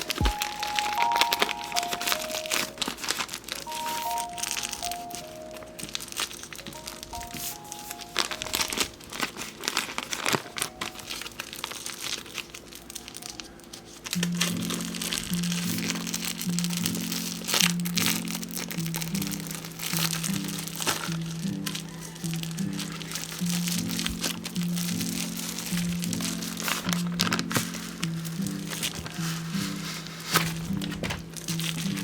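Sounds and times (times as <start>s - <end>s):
packaging crinkling: 0.0s - 32.0s
soft background music: 0.0s - 32.0s.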